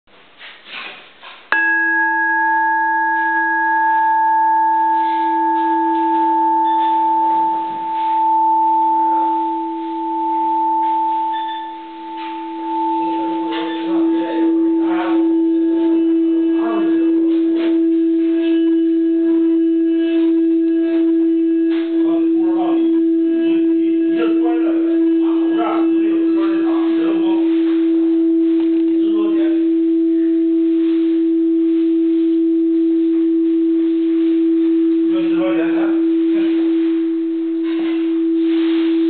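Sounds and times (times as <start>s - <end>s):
singing bowl ringing: 1.5s - 39.0s.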